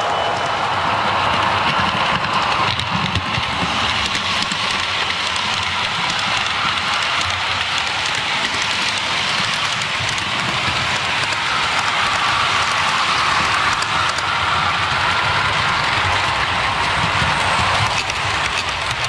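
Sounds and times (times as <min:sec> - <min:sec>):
train wheels rattling on track: 0:00.0 - 0:19.0.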